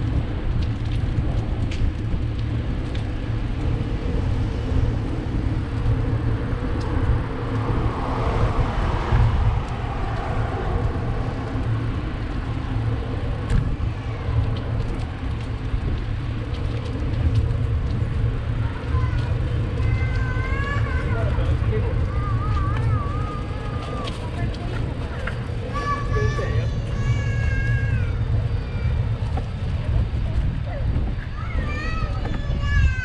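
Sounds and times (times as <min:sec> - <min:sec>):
road traffic passing: 0:00.0 - 0:33.0
wind rumble on microphone: 0:00.0 - 0:33.0.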